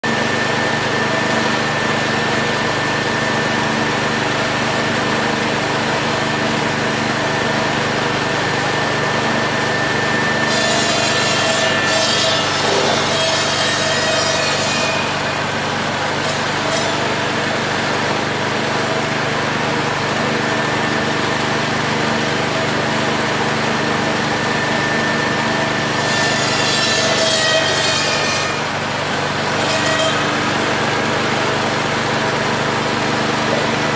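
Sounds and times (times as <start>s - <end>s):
machine motor drone: 0.1s - 33.9s.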